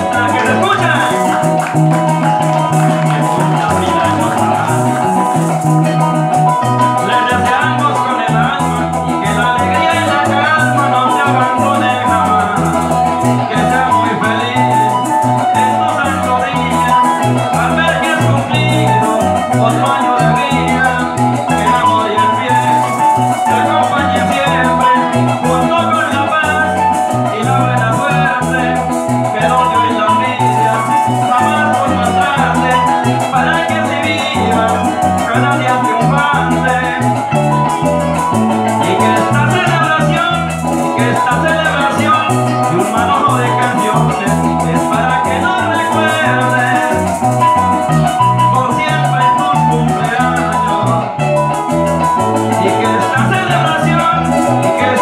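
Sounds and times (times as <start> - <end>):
maracas shaking: 0.0 - 55.0
strummed small guitar: 0.0 - 55.0.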